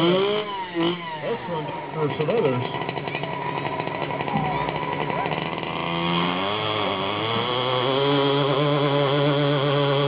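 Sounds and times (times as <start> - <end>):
small engine at high revs: 0.0 - 10.0.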